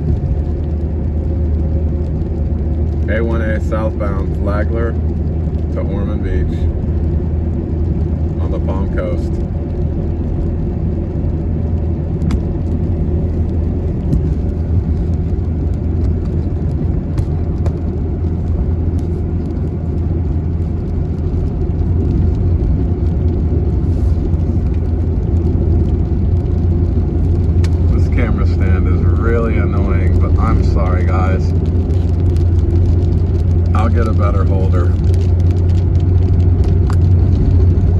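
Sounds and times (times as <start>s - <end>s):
vehicle road and engine drone: 0.0s - 37.9s.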